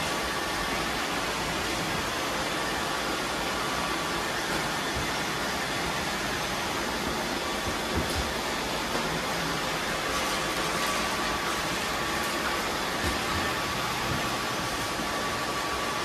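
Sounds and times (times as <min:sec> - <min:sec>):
robot vacuums whirring: 0:00.0 - 0:16.0.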